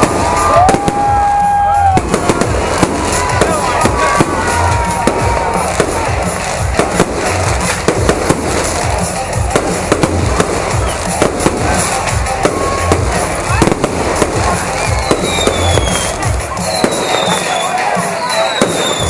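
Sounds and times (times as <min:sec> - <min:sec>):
firework bangs: 0:00.0 - 0:19.0
firework crackling: 0:00.0 - 0:19.0.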